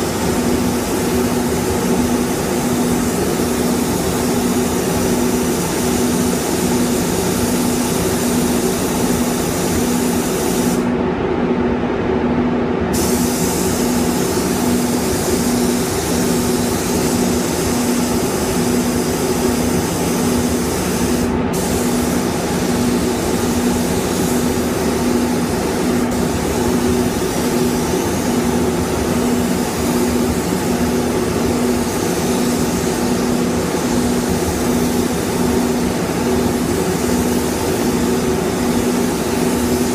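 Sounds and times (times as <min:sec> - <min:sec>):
spray gun hissing: 0:00.0 - 0:10.9, 0:13.0 - 0:39.9
steady machine hum: 0:00.0 - 0:39.9.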